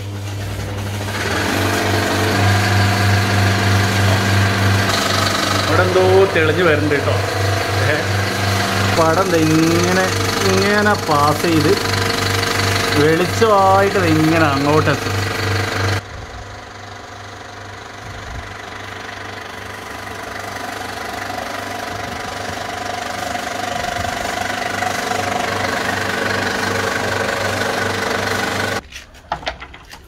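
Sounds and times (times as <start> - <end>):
motor hum: 0.0 - 28.8
film projector clattering: 0.2 - 16.0, 16.9 - 28.8.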